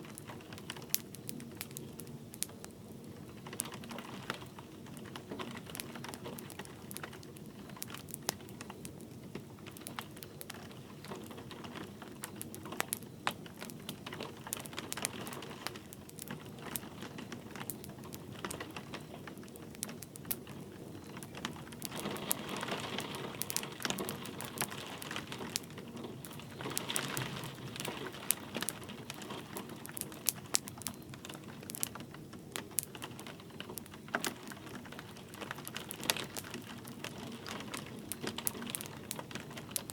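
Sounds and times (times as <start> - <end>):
light rain: 0.0 - 39.9
wood fire crackling and popping: 0.0 - 39.9.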